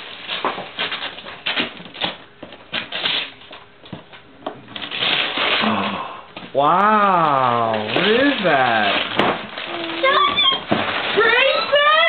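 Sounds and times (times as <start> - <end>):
wrapping paper tearing and crumpling: 0.0 - 3.5, 4.7 - 6.2, 6.8 - 12.0.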